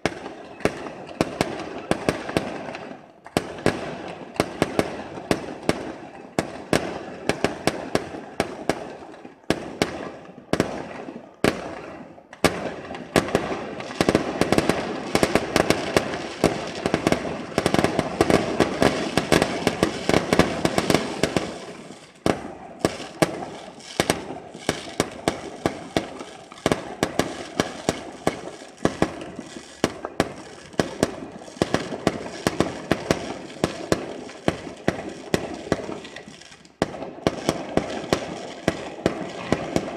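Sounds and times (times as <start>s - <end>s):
fireworks bursts and bangs: 0.0s - 39.9s
fireworks crackle: 0.0s - 39.9s.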